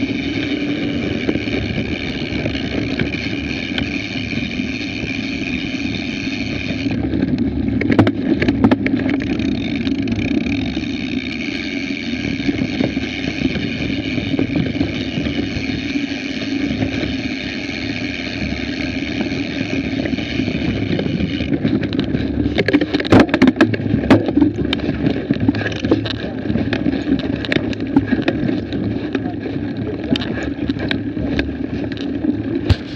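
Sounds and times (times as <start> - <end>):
bike clattering over rough ground: 0.0 - 32.9
bike tyres rumbling: 0.0 - 32.9
high buzz from bike: 0.0 - 32.9
wind on camera: 0.0 - 32.9.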